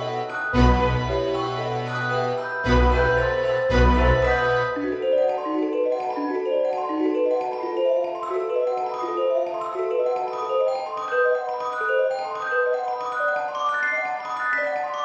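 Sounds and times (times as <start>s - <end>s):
christmas music melody: 0.0s - 15.0s.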